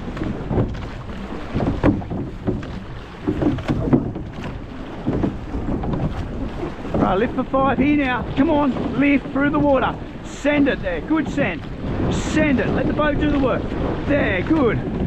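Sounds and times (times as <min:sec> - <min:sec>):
boat knocking: 0:00.0 - 0:15.0
water rushing past boat: 0:00.0 - 0:15.0
wind buffeting microphone: 0:00.0 - 0:15.0.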